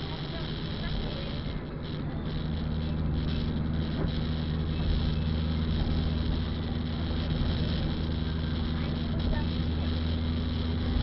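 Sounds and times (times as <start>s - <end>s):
car engine hum: 0.0s - 11.0s
tyre noise on wet road: 0.0s - 11.0s.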